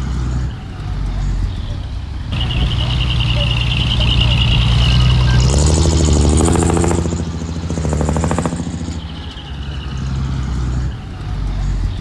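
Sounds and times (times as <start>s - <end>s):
diesel engine of heavy machinery: 0.0s - 12.0s.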